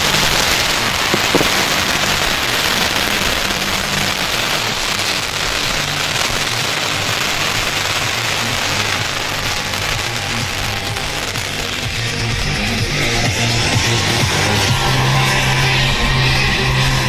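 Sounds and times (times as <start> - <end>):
bonfire hissing: 0.0 - 17.0
fire crackles: 0.0 - 17.0.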